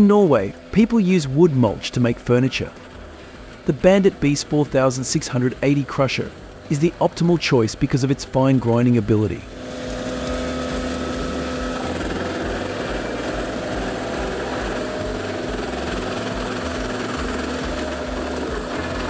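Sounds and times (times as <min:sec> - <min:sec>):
low throb: 0:00.0 - 0:19.0
wood grinder running: 0:00.0 - 0:19.0.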